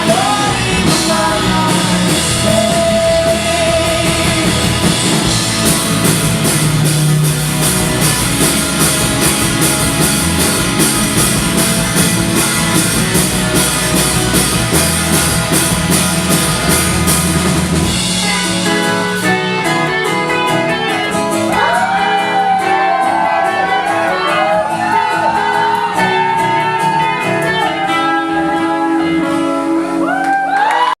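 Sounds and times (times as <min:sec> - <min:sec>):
wavering bending high guitar notes: 0:00.0 - 0:30.6
live rock band playing: 0:00.0 - 0:31.0.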